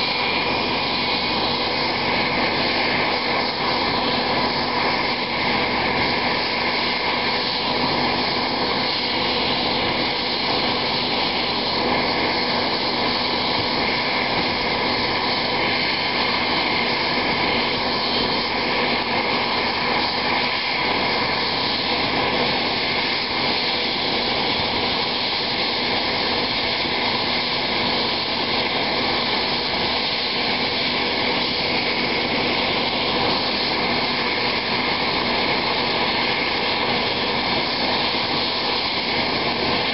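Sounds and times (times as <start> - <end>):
helicopter rotor rushing noise: 0.0 - 39.9
helicopter turbine whine: 0.0 - 39.9.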